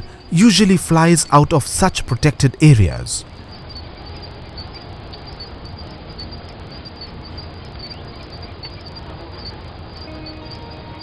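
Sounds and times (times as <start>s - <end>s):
insect chirps: 0.0s - 11.0s
low rumble and hiss: 0.0s - 11.0s
soft held music notes: 0.0s - 11.0s.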